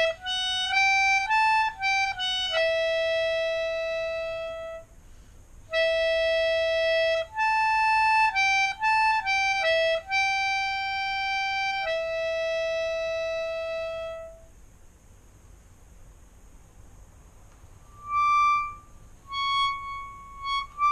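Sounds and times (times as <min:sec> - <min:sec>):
melodica melody: 0:00.0 - 0:04.9, 0:05.7 - 0:14.5, 0:17.8 - 0:20.9.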